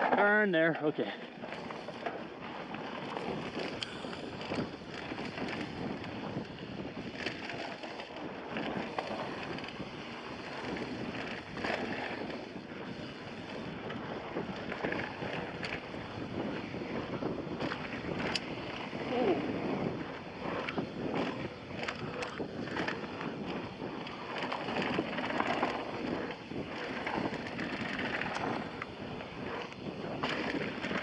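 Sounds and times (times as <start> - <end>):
bike clicks and rattles: 0.0 - 31.0
bike tyres rolling on dirt: 0.0 - 31.0
wind across microphone: 1.3 - 31.0.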